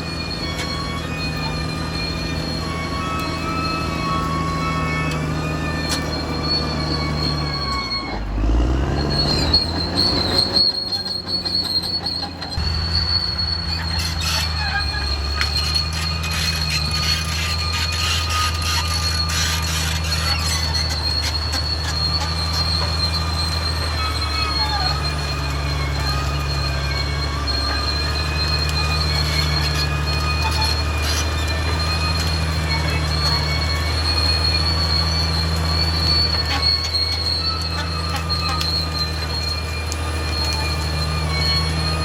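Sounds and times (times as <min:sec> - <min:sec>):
bulldozer diesel engine: 0:00.0 - 0:42.0
high squeal of steel tracks: 0:00.0 - 0:42.0.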